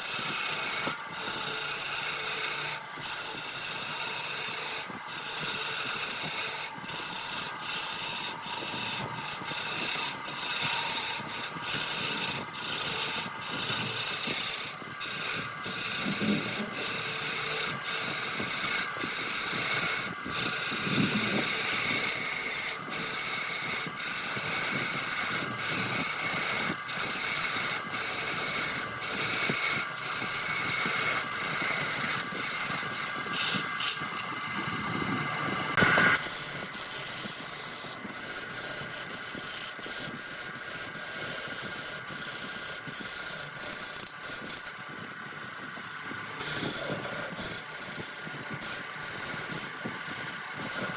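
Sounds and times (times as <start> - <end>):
tool rasping on spinning wood: 0.0 - 35.1, 35.8 - 50.9
wood lathe whining: 0.0 - 50.9.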